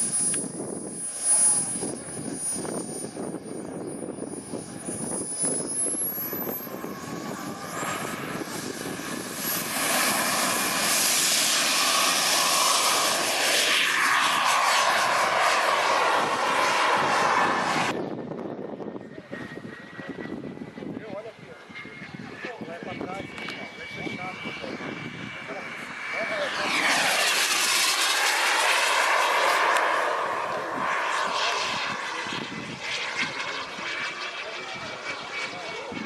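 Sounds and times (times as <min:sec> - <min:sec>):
model jet engine whining: 0:00.0 - 0:36.0.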